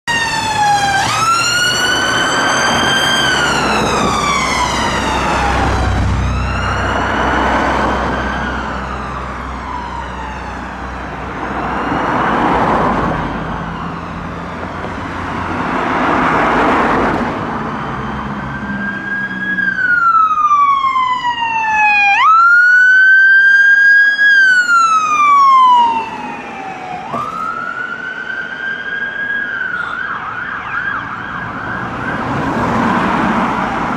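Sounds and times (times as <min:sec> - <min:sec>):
emergency vehicle wail siren: 0:00.1 - 0:33.9
engine rumble and road noise: 0:00.1 - 0:33.9.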